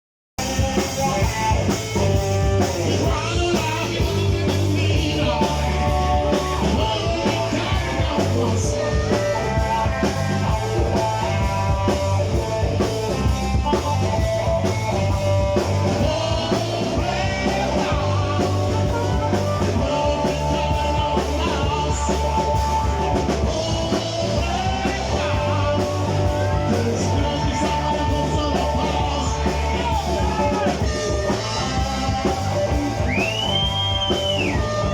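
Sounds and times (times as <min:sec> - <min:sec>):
rock blues band playing: 0:00.4 - 0:34.9.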